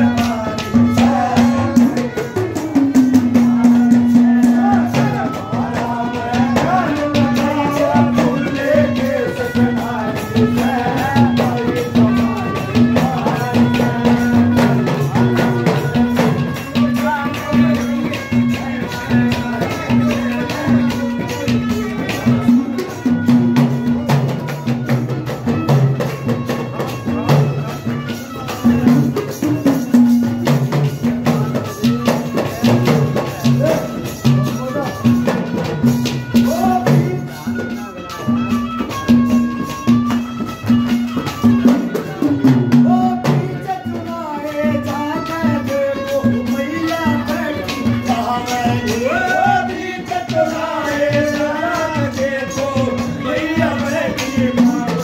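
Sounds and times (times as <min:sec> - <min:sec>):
drum and clay pot percussion: 0:00.0 - 0:55.0.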